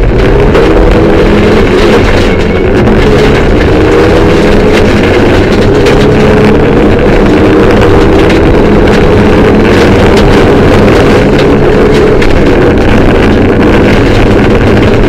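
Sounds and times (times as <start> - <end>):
car engine running hard: 0.0 - 15.0
tyre and road noise: 0.0 - 15.0.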